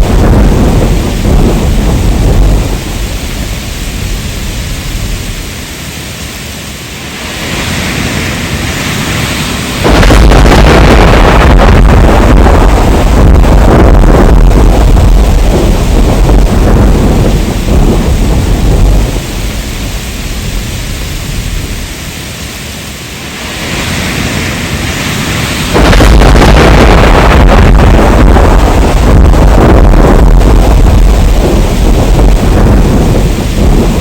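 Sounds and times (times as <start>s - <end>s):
loud thunderclap: 0.0s - 5.7s, 7.1s - 22.2s, 23.3s - 34.0s
heavy rain: 0.0s - 34.0s
rolling thunder rumble: 0.0s - 34.0s.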